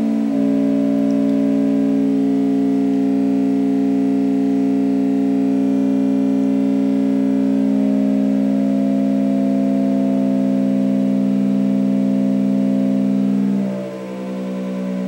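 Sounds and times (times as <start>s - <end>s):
electronic synthesizer drone: 0.0s - 15.0s.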